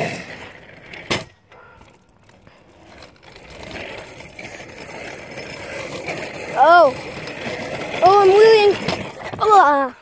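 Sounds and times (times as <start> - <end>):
small wheels rolling on asphalt: 0.0 - 10.0.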